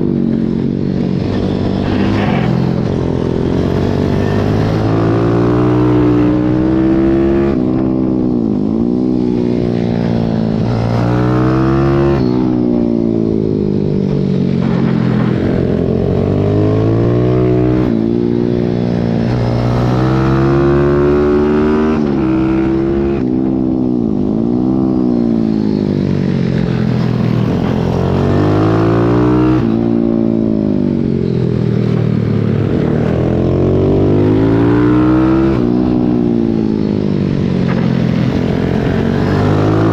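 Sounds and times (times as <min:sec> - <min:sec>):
motorbike engine racing: 0:00.0 - 0:39.9.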